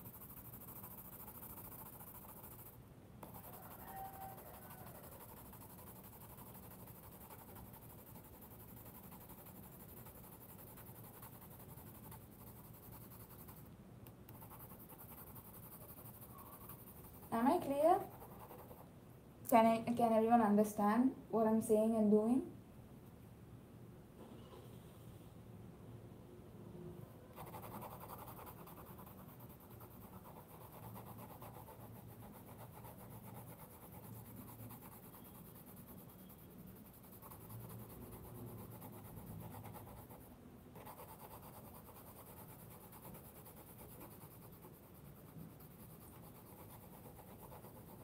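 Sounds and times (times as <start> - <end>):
pencil scratching on paper: 0.0 - 13.7, 14.3 - 18.9, 27.4 - 48.0.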